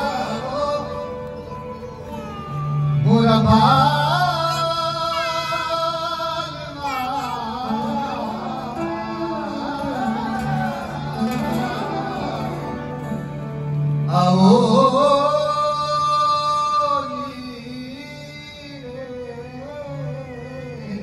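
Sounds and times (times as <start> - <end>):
man singing folk song: 0.0 - 1.6, 2.9 - 21.0.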